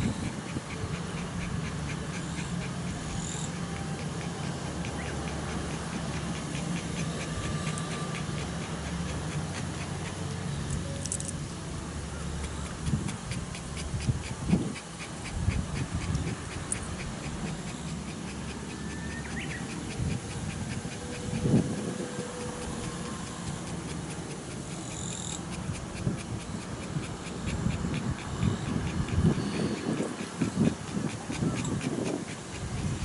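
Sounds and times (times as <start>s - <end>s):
dog panting: 0.0s - 11.0s, 12.2s - 33.0s.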